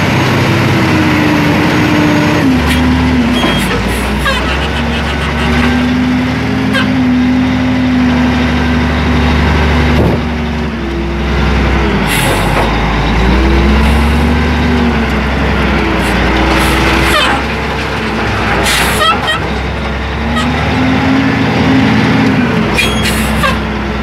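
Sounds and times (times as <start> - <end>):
wheel loader diesel engine revving: 0.0 - 24.0.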